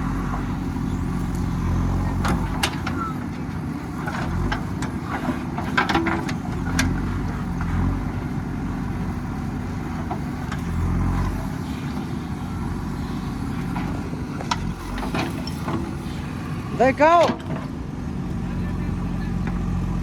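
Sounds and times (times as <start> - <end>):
digging machine diesel engine: 0.0 - 20.0.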